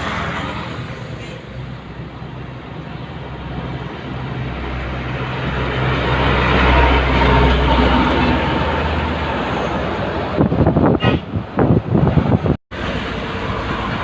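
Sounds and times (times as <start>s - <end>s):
heavy truck engine drone: 0.0s - 14.0s.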